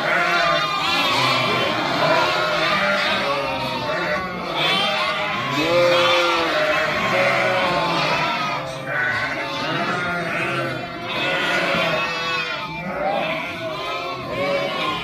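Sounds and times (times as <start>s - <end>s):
flock bleating: 0.0s - 15.0s.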